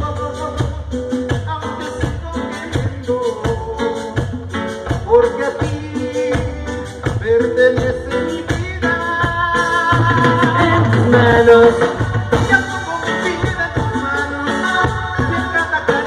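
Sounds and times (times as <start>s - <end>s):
latin dance band playing: 0.0s - 16.0s.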